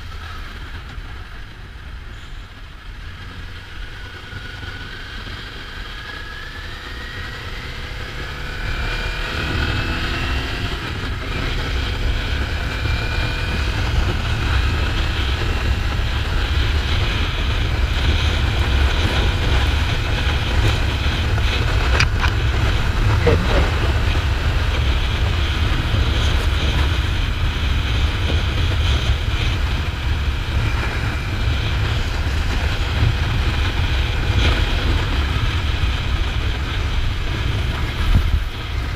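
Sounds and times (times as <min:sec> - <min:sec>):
wind noise on microphone: 0:00.0 - 0:38.9
motorcycle engine accelerating: 0:02.6 - 0:38.9.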